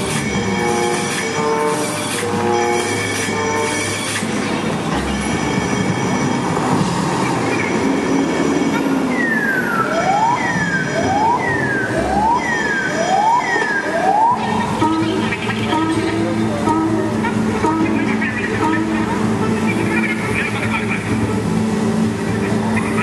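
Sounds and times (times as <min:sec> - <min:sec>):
siren swooping: 0:00.0 - 0:19.4
steady noisy rumble: 0:00.0 - 0:23.0.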